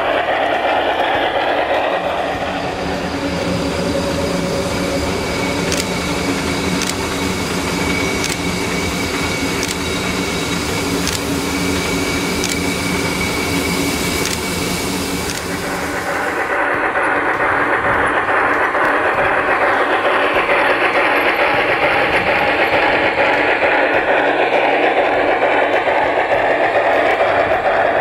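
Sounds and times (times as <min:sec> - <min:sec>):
railway equipment humming: 0:00.0 - 0:28.0
train running: 0:00.0 - 0:28.0.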